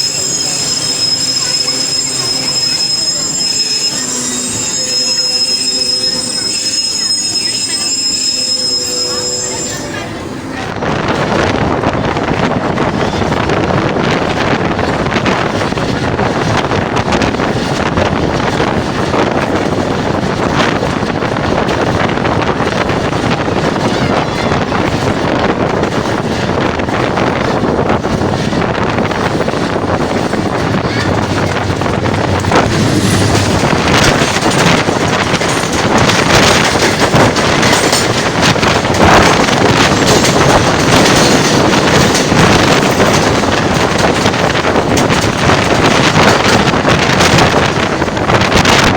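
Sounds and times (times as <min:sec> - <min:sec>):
passenger train running at speed: 0:00.0 - 0:48.9
wind on microphone: 0:00.0 - 0:48.9.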